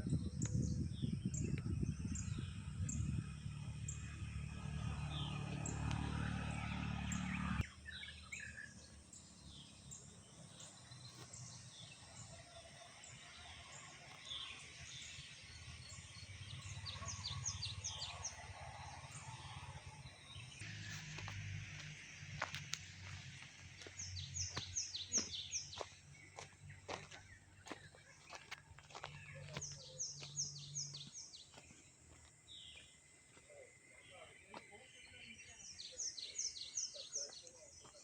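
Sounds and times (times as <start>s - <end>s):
birds chirping and calling: 0.0s - 21.4s, 22.4s - 38.0s.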